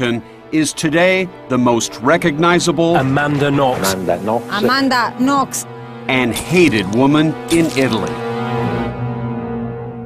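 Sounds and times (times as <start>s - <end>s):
ominous synthesizer chord: 0.0s - 10.0s.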